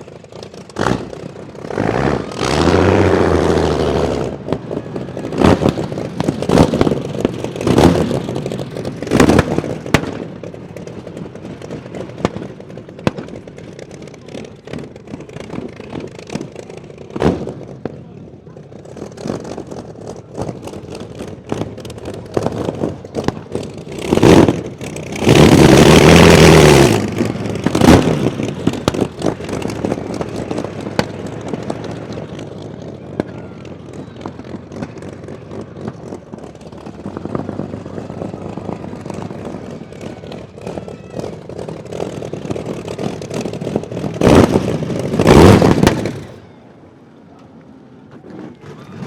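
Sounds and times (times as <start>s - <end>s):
aero engine revving crackling: 0.0s - 17.9s, 18.8s - 46.4s.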